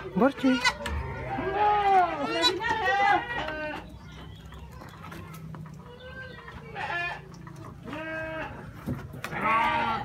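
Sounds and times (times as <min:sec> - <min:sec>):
young goats bleating: 0:00.0 - 0:10.0.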